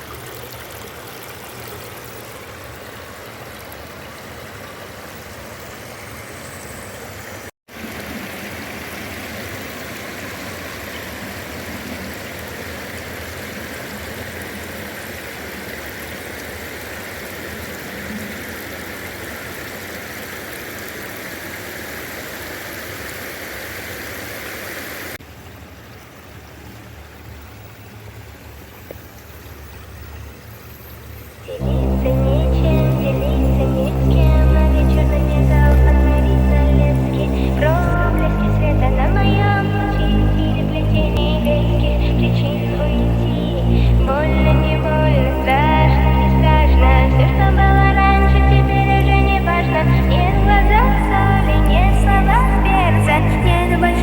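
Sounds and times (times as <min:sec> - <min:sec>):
waterfall and creek rushing: 0:00.0 - 0:54.0.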